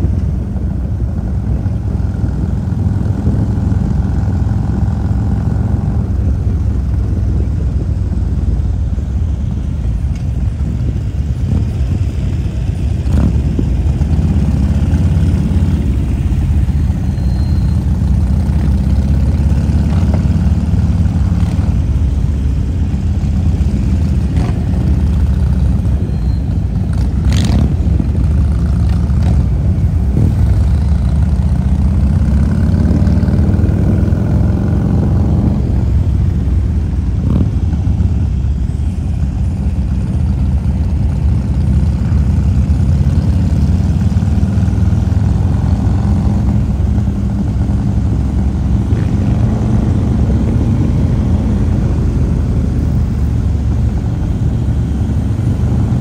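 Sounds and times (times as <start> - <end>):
motorcycle engine running: 0.0 - 56.0
other motorcycles riding ahead: 0.0 - 56.0.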